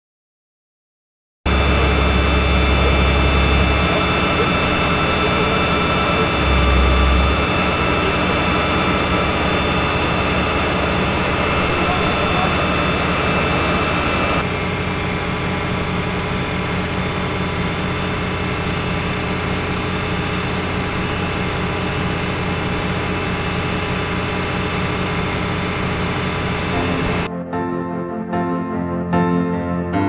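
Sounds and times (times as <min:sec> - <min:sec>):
crane engine low drone: 0:01.5 - 0:27.3
hydraulic whine: 0:01.5 - 0:27.3.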